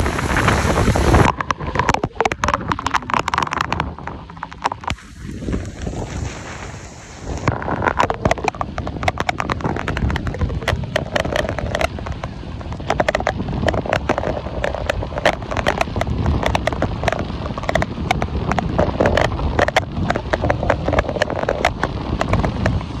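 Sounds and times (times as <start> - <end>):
heavy rain beating on car: 0.0 - 23.0.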